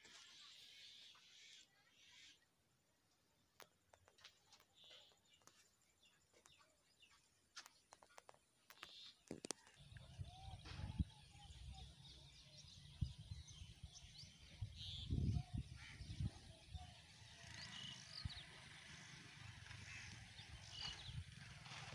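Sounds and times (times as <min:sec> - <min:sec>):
faint birds chirping: 0:00.0 - 0:21.9.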